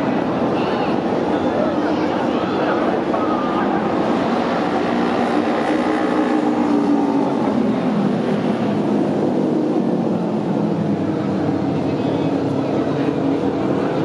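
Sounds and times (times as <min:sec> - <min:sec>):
racing motorcycle engines droning: 0:00.0 - 0:14.0.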